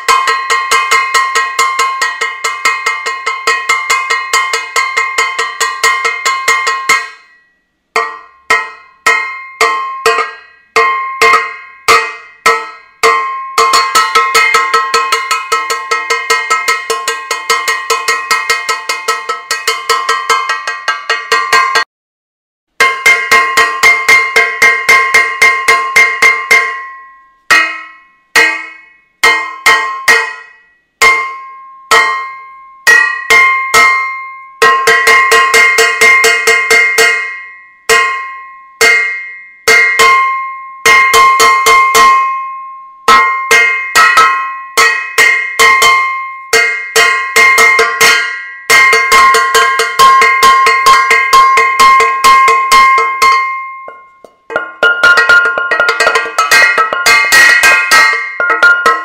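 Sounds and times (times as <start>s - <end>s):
metal saucepan being banged: 0.0s - 7.4s, 8.0s - 21.9s, 22.8s - 42.4s, 43.0s - 59.0s.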